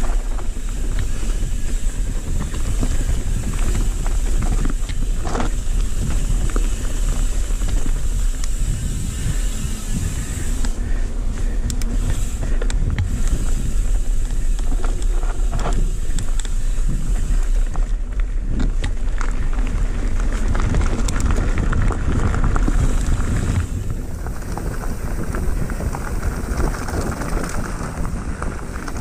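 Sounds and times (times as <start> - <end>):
bike clicks and rattles: 0.0 - 29.0
bike tyres on gravel: 0.0 - 29.0
wind rumbling on microphone: 0.0 - 29.0.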